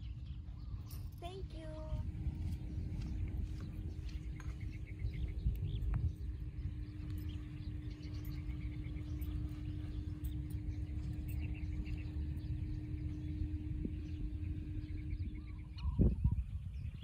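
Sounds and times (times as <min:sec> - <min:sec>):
low hum: 0:00.0 - 0:17.0
wind rumble on microphone: 0:00.0 - 0:17.0
bird chirps: 0:02.4 - 0:17.0.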